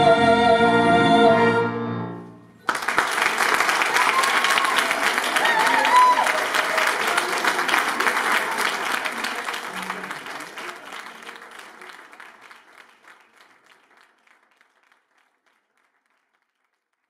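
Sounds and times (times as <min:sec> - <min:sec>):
audience applauding: 0:02.6 - 0:17.0.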